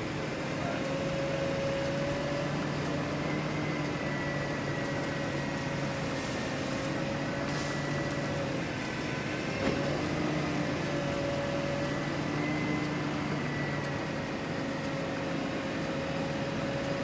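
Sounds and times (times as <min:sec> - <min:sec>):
machine engine humming: 0:00.0 - 0:17.0.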